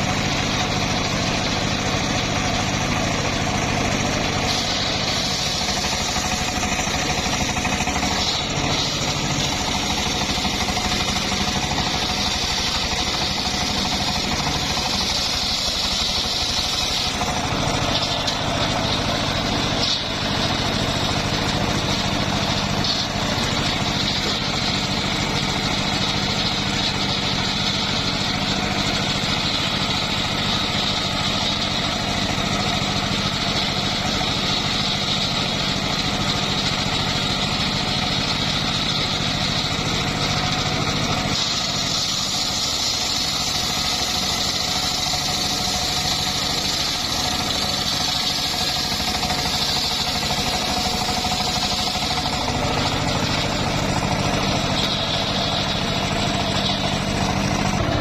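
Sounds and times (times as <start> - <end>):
saw blade cutting wood: 0.0 - 58.0
sawmill engine running: 0.0 - 58.0.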